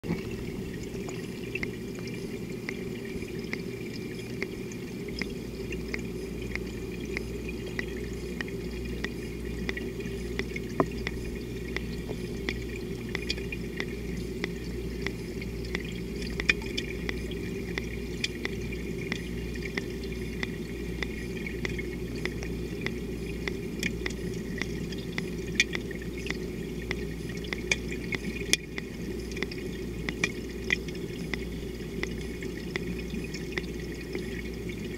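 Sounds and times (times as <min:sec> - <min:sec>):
steady low hum: 0:00.0 - 0:34.9
water gurgling and trickling: 0:00.0 - 0:34.9.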